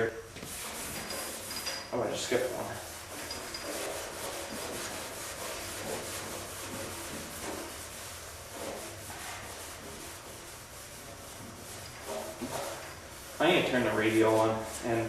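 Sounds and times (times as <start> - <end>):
sandpaper rubbing on metal: 0.5 - 1.7, 2.3 - 15.0.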